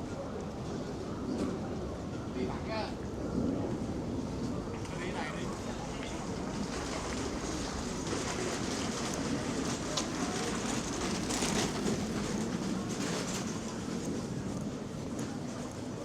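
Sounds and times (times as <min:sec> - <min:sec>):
city street rumble: 0:00.0 - 0:16.0.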